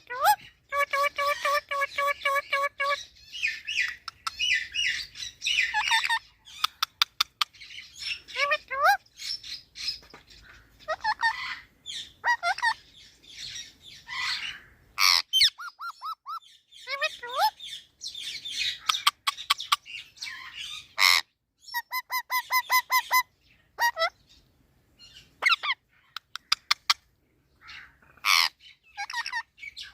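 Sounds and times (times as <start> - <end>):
parrot chirping and squawking: 0.0 - 29.9.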